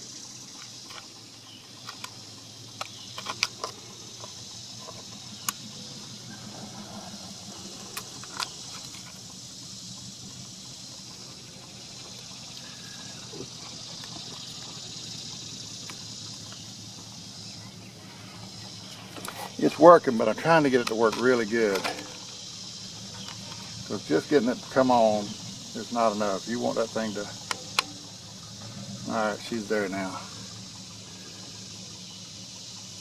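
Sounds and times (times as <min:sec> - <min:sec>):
high insect drone: 0:00.0 - 0:33.0
low steady hum: 0:00.0 - 0:33.0.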